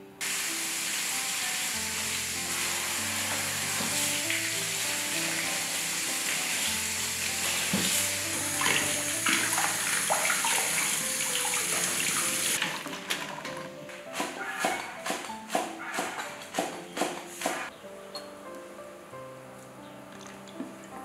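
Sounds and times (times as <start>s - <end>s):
leaves splashing under water: 0.2s - 17.7s.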